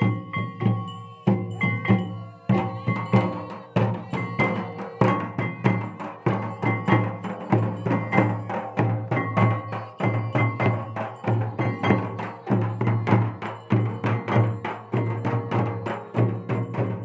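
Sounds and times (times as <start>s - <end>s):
barrel drums playing folk rhythm: 0.0s - 17.0s
kettle drum beaten with sticks: 0.0s - 17.0s
ringing tones: 0.0s - 17.0s.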